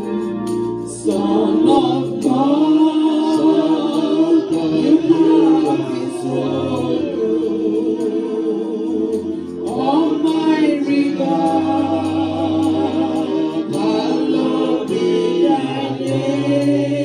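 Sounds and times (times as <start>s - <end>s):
low musical backing: 0.0s - 17.0s
voices singing along: 0.0s - 17.0s.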